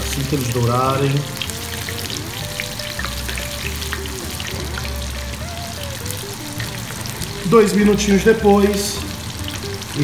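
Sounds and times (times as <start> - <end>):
shrimp sizzling in hot oil: 0.0 - 10.0
soft background music: 0.0 - 10.0.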